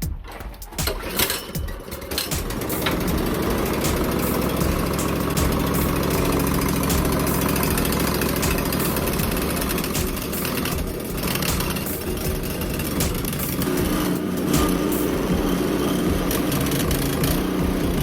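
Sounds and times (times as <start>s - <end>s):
snowblower engine running: 1.9s - 18.0s.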